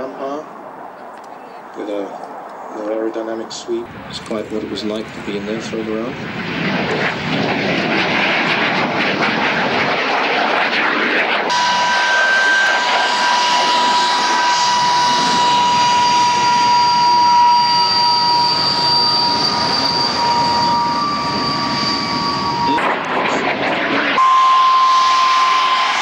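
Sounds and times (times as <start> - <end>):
jet flying past roaring: 1.8 - 26.0
taxiing jet turbine whine: 1.8 - 26.0.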